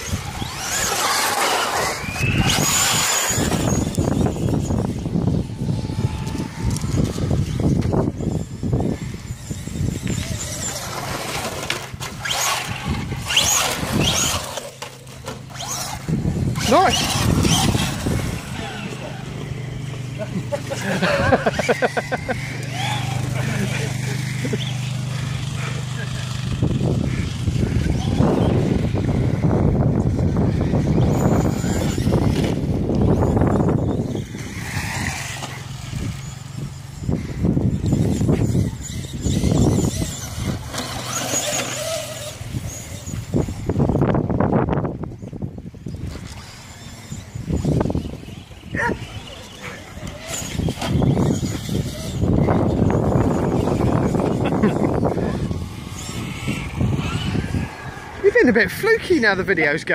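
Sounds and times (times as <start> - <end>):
rc truck electric motor whining: 0.0 - 58.9
wind rumble on microphone: 0.0 - 59.9.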